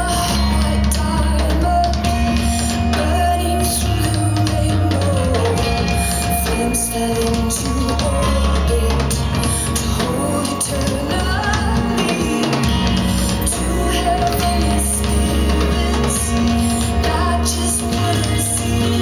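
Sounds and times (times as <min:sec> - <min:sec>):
song with singing drums and guitar: 0:00.0 - 0:19.0.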